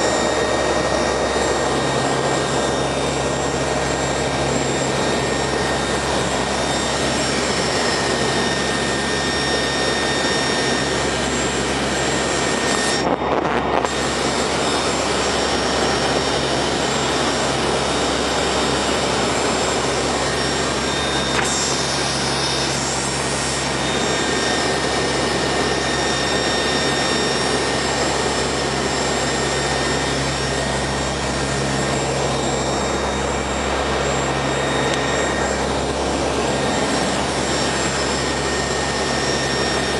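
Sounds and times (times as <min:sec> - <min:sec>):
constant hum and whine: 0:00.0 - 0:39.9
turboprop engines droning: 0:00.0 - 0:39.9.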